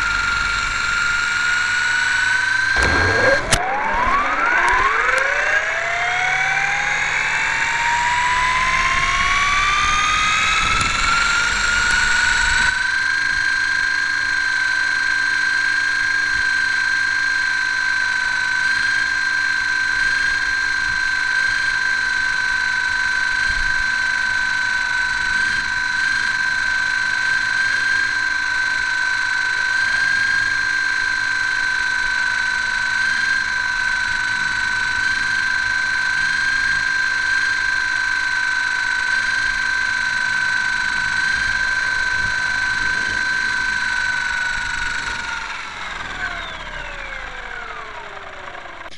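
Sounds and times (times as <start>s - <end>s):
model plane motor whining: 0.0s - 48.9s.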